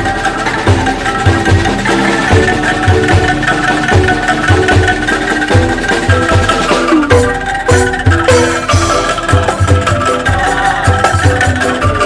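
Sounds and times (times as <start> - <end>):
bamboo percussion ensemble: 0.0 - 12.0
bass drum beat: 0.0 - 12.0.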